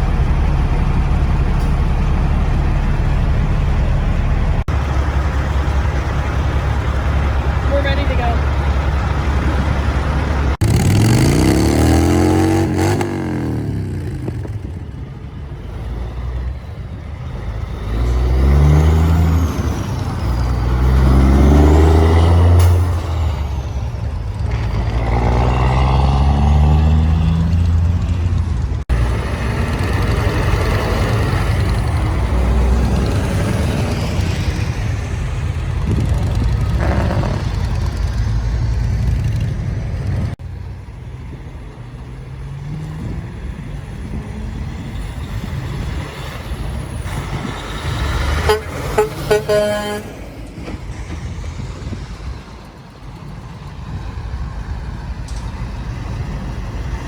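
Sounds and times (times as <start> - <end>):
truck diesel engines revving: 0.0 - 57.0.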